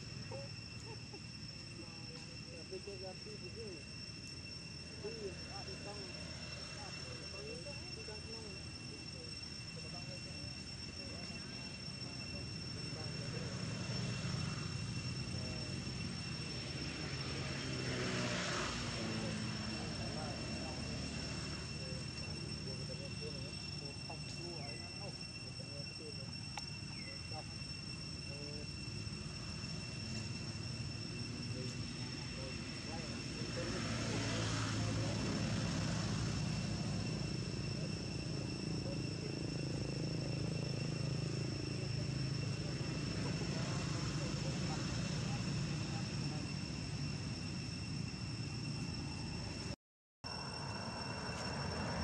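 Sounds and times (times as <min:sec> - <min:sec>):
distant engine drone: 0:00.0 - 0:52.0
high-pitched whine: 0:00.0 - 0:52.0.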